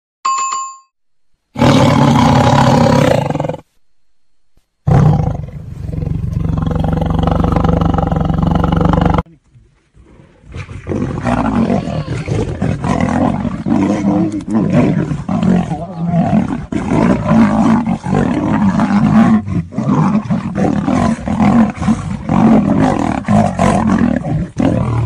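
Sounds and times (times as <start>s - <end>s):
big cats roaring: 1.6s - 3.6s, 4.9s - 9.2s, 10.0s - 25.0s.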